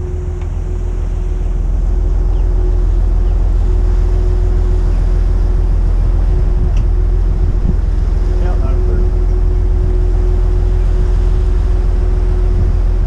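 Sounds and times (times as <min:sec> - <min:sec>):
constant hum: 0:00.0 - 0:13.0
deep boat engine drone: 0:00.0 - 0:13.0
water rushing past hull: 0:00.0 - 0:13.0
wind on microphone: 0:00.0 - 0:13.0.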